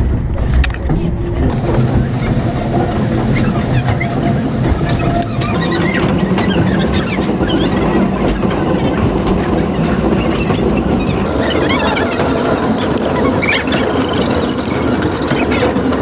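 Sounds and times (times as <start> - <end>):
train wheels rumbling: 0.0 - 16.0
clicks and rattles: 0.4 - 16.0.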